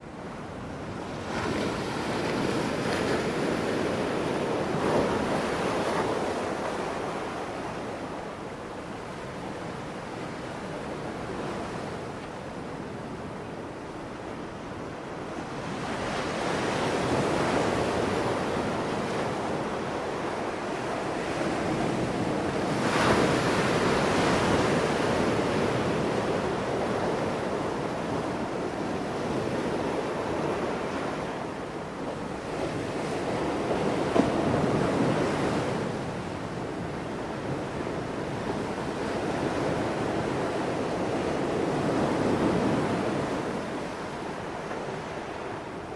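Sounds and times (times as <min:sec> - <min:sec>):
sea waves breaking on shore: 0:00.1 - 0:45.9.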